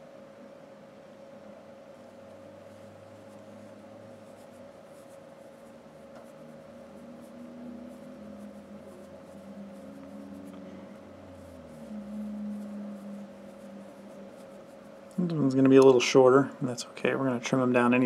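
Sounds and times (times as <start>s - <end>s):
faint steady hum: 0.0s - 18.0s
cotton wick rubbing between fingers: 1.8s - 16.4s.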